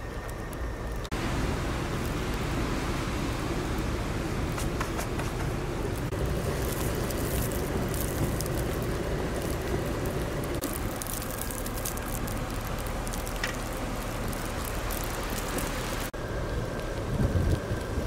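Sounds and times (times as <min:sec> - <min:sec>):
blizzard wind rumble: 0:00.0 - 0:18.0
snow pelting and ticking: 0:00.0 - 0:18.0.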